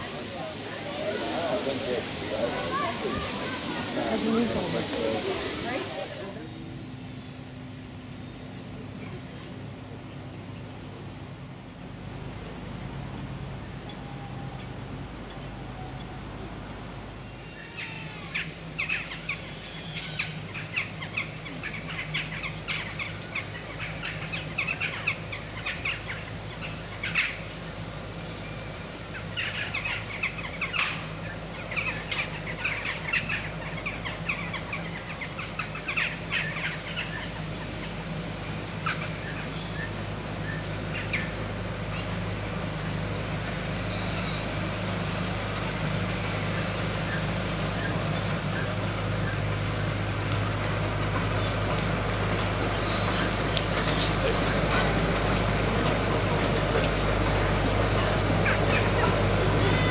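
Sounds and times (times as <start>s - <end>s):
birds chirping: 0.0s - 59.9s
diesel locomotive humming: 0.0s - 59.9s.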